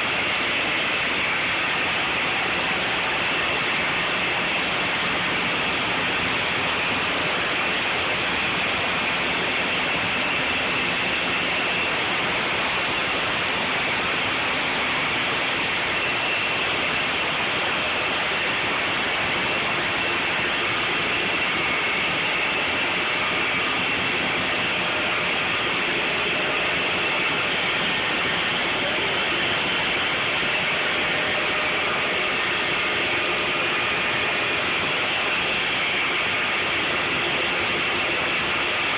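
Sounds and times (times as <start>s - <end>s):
mill machinery running: 0.0s - 38.9s.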